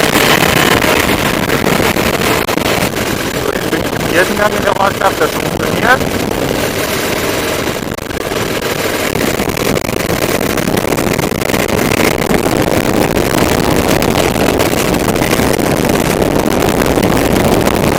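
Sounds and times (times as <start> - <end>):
motorcycle engine accelerating: 0.0 - 17.9
wind noise on microphone: 0.0 - 17.9.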